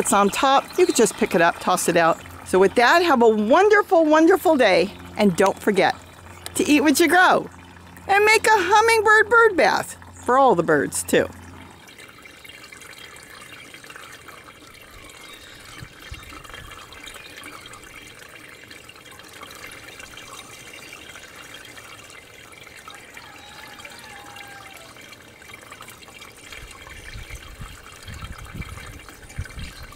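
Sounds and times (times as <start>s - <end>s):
fountain water trickling: 0.0s - 29.9s.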